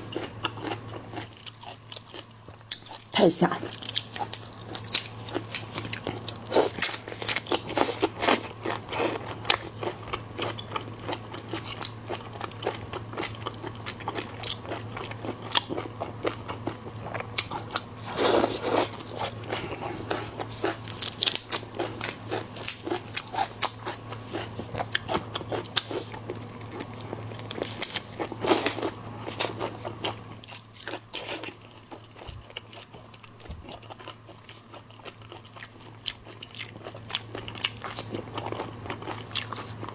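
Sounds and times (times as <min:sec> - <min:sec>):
crunchy chewing of seafood: 0:00.0 - 0:39.9.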